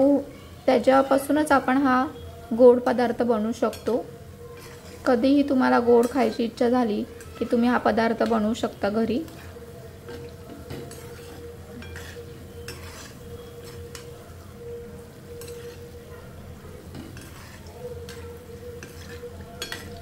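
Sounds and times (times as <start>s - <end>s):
fritters sizzling in hot oil: 1.0s - 20.0s
metal spoon clinking against pan: 1.5s - 20.0s.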